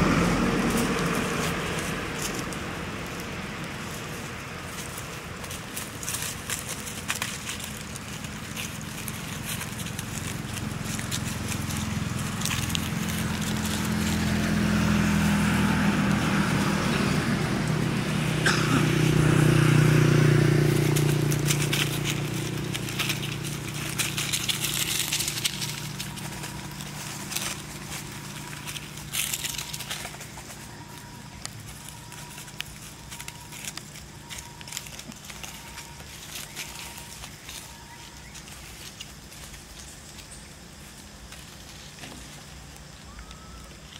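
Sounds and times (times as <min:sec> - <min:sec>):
dry leaves crackling and rustling: 0:00.0 - 0:43.9
vehicle engine passing by: 0:00.0 - 0:43.9.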